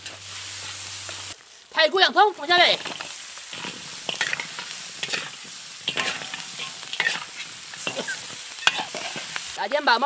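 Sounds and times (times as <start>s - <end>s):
metal spatula scraping wok: 0.0s - 1.8s, 2.6s - 9.6s
food sizzling in a wok: 0.0s - 10.0s.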